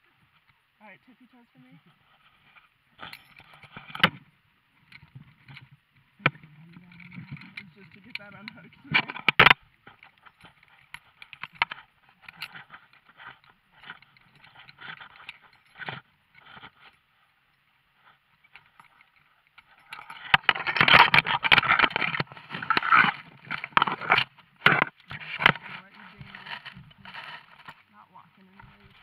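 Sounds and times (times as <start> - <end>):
harness gear scraping and clicking: 1.6 - 29.0.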